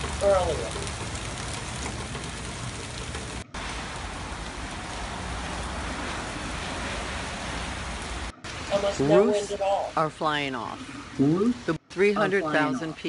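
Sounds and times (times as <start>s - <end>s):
rain falling on puddles: 0.0s - 13.0s.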